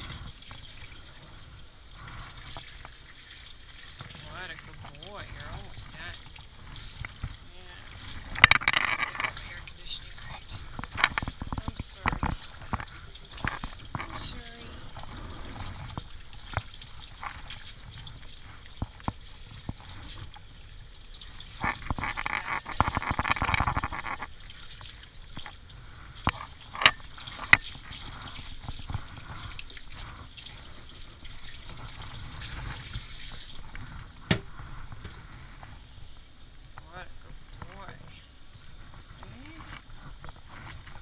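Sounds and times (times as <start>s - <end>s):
water spraying and running off: 0.0s - 41.0s.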